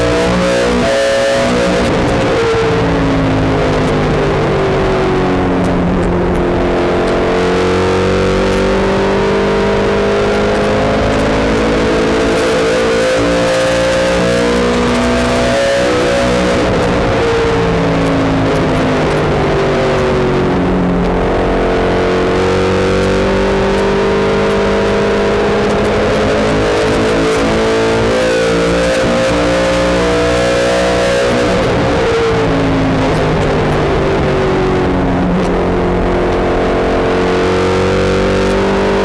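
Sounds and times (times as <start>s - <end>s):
race car engine at speed: 0.0s - 39.0s.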